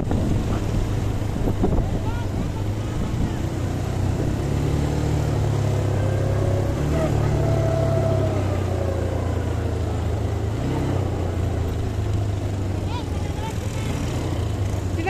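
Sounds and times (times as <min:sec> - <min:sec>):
atv engines running: 0:00.0 - 0:15.0.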